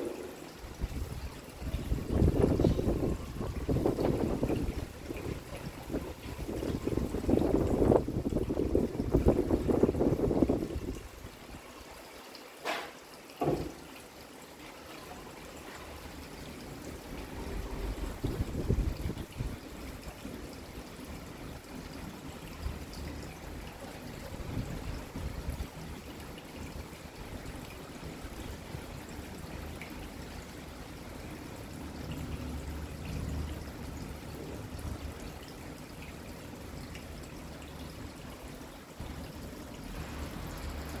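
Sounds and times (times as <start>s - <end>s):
steady rain falling: 0.0s - 41.0s
water trickling and pouring: 0.0s - 41.0s.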